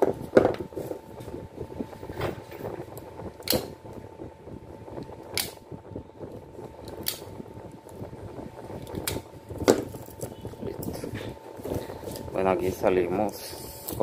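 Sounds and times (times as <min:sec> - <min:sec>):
faint whine: 0:00.0 - 0:14.0.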